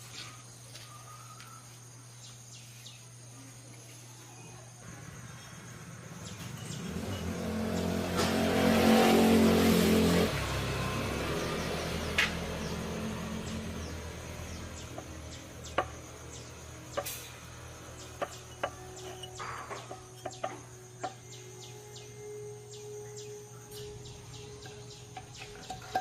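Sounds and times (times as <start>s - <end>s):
birds chirping: 0.0s - 26.0s
motor vehicle passing by: 4.8s - 26.0s.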